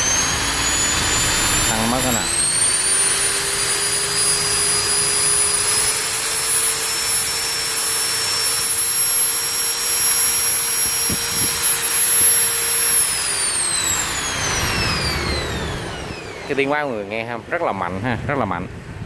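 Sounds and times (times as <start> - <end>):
hammer drill motor whine: 0.0 - 18.0.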